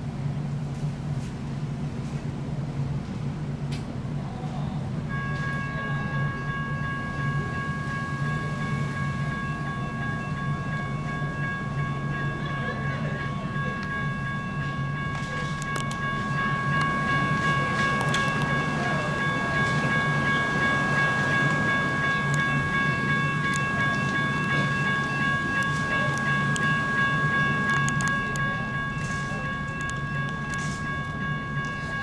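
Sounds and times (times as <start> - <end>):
crossing signal bell ringing: 5.0 - 32.0.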